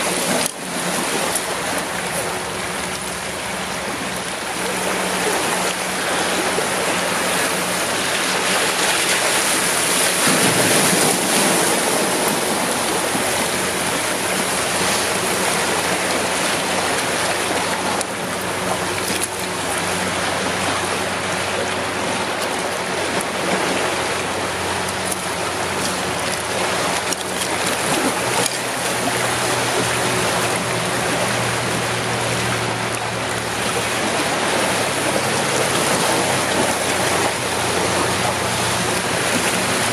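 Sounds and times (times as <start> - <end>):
surf washing against rocks: 0.0 - 39.9.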